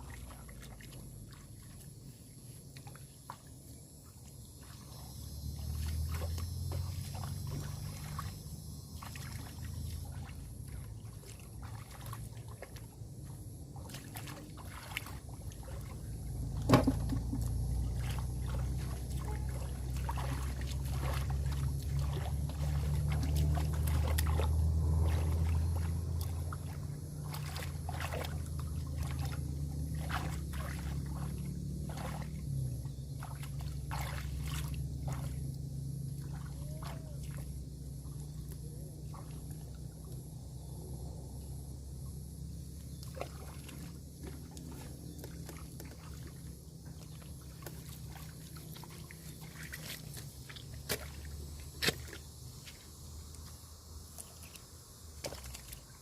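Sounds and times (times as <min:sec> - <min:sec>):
water splashing and trickling: 0:00.0 - 0:40.5, 0:41.9 - 0:56.0.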